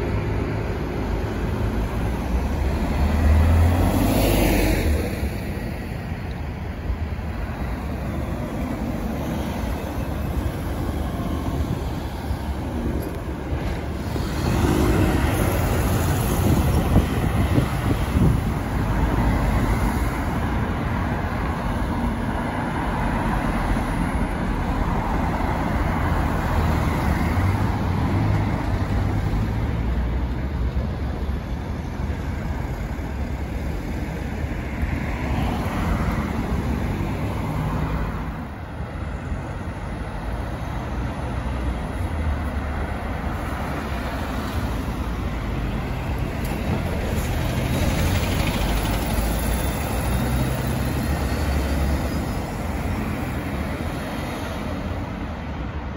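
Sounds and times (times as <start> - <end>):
bus passing close by: 0.0 - 55.9
road traffic passing: 0.0 - 55.9.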